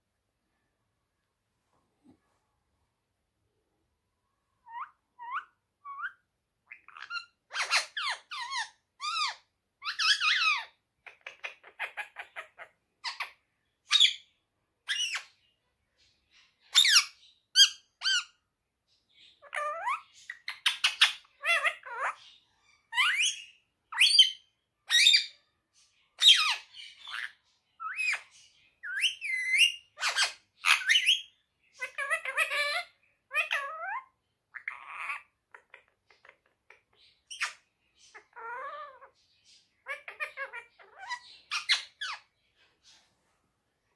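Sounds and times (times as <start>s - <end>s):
parrot squawking and chirping: 4.6s - 15.5s, 16.6s - 18.4s, 19.2s - 25.5s, 26.2s - 43.0s.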